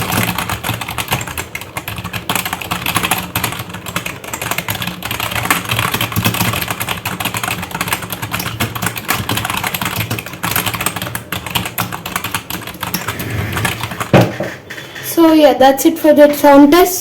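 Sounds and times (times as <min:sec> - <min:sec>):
fast keyboard typing: 0:00.0 - 0:14.5.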